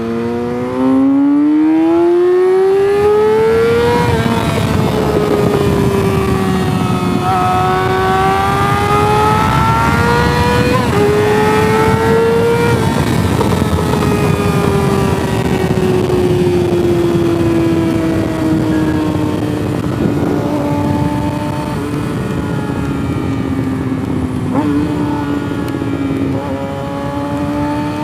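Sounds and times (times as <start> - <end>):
motorcycle engine at high revs: 0.0 - 28.0
wind noise rushing: 0.0 - 28.0.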